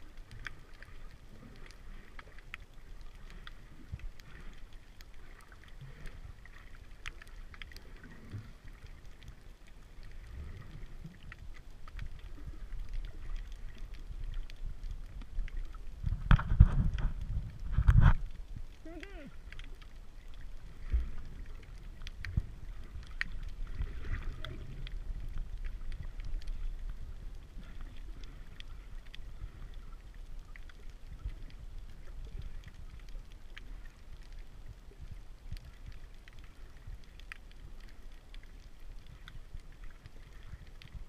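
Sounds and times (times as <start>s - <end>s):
muffled underwater rumble: 0.0s - 41.0s
underwater clicks and crackles: 0.0s - 41.0s.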